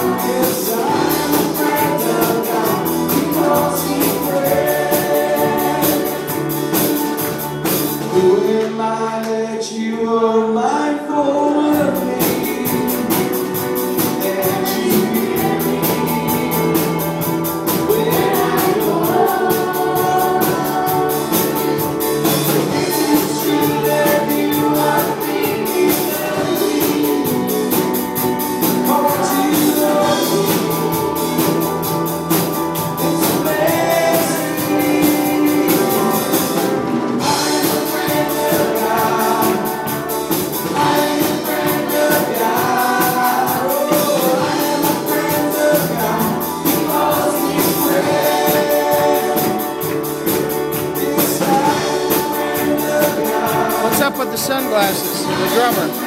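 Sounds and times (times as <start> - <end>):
drums: 0.0 - 56.0
worship band with singing: 0.0 - 56.0.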